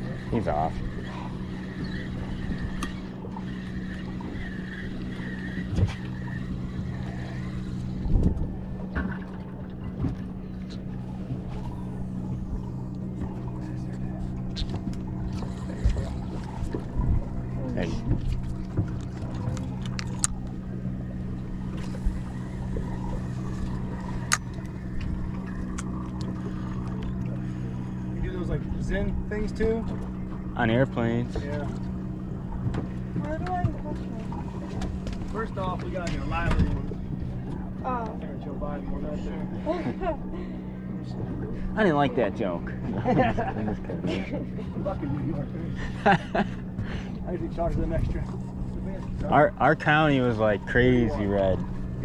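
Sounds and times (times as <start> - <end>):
boat motor humming: 0.0 - 52.0.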